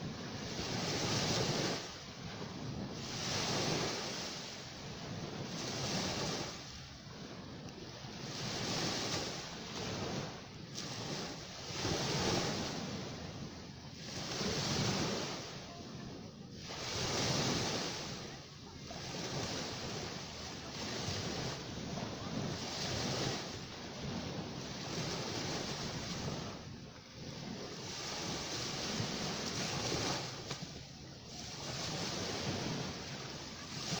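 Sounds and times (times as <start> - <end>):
ocean surf breaking on a beach: 0.0 - 34.0.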